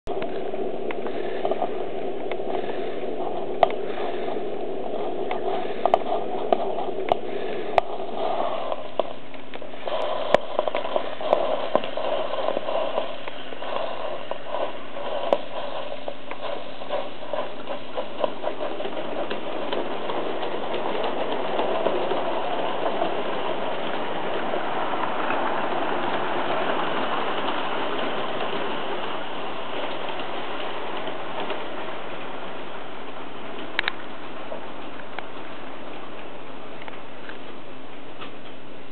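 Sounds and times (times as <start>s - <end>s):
model steam locomotive hissing: 0.1s - 38.9s.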